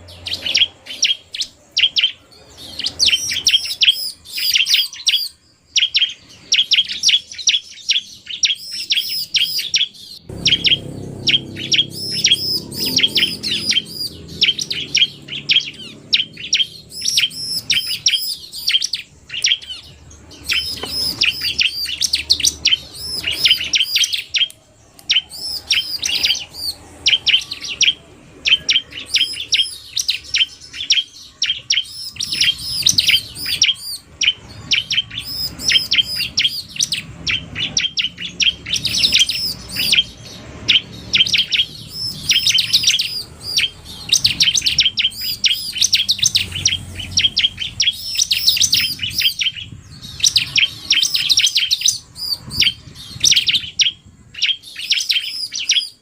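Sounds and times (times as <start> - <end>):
bird singing sharp chirps: 0.0 - 56.0.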